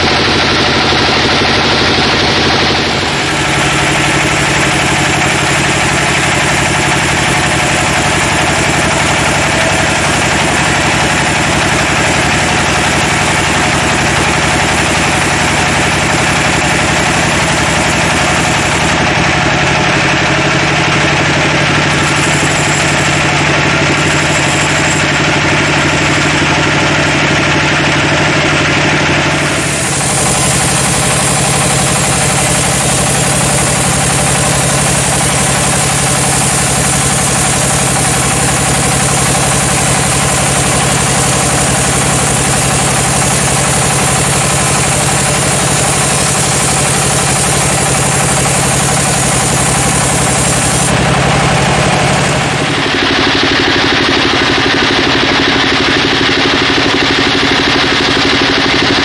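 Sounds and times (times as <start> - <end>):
band saw cutting wood: 0.0 - 59.0.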